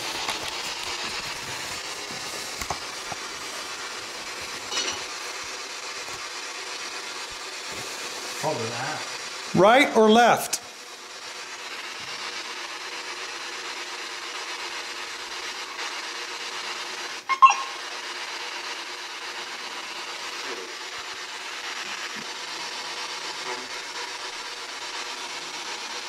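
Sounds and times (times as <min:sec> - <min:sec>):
radio static hiss: 0:00.0 - 0:18.6, 0:19.3 - 0:25.1.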